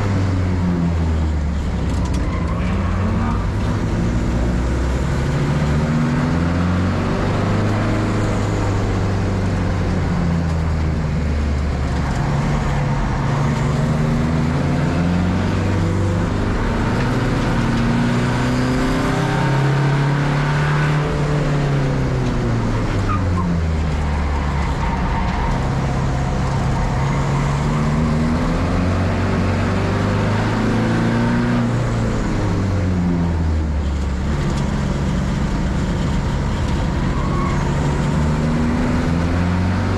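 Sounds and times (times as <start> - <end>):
race car engine accelerating: 1.9 - 39.9.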